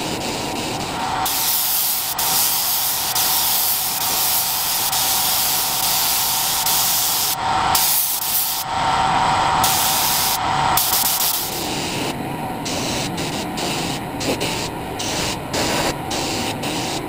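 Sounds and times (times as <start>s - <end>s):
paint spray gun hissing: 0.0s - 8.7s, 9.6s - 17.0s.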